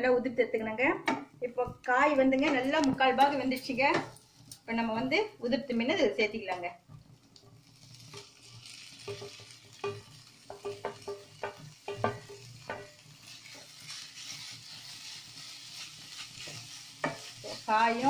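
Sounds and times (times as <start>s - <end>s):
food sizzling in oil: 2.8s - 6.2s, 6.8s - 18.0s.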